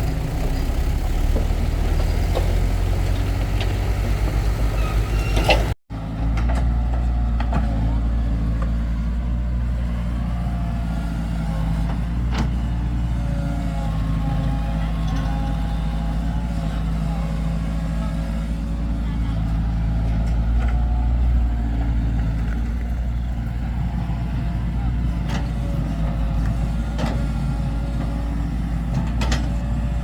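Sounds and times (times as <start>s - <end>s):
excavator engine droning: 0.0s - 30.0s.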